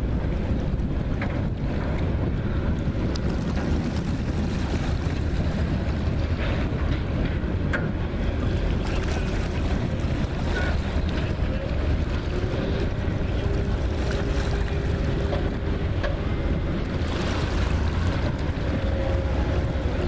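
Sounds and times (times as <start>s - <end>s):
diesel engine rumble: 0.0s - 20.0s
wind buffeting microphone: 0.0s - 20.0s.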